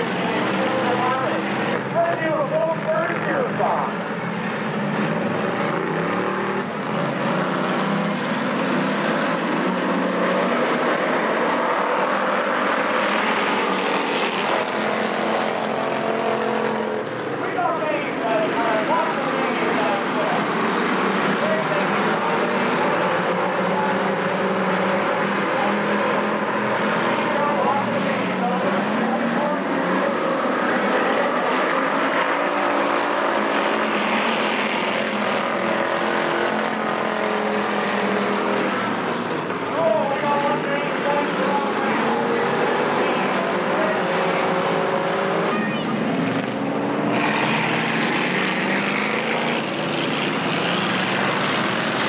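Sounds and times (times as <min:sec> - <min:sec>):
race car engines droning: 0:00.0 - 0:52.0.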